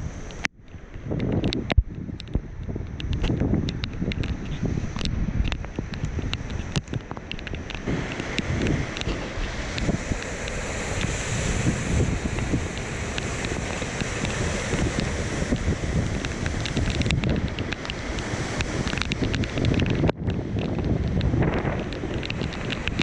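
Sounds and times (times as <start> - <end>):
wind buffeting microphone: 0.0 - 23.0
rushing floodwater: 2.5 - 23.0.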